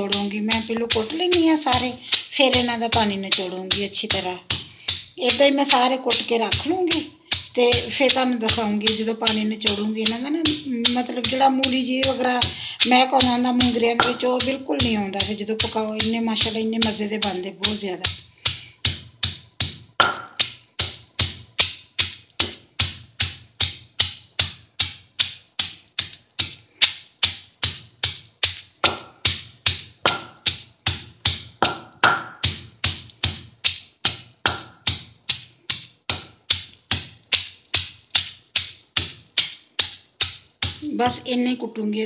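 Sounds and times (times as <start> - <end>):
pestle pounding in stone mortar: 0.0 - 41.6.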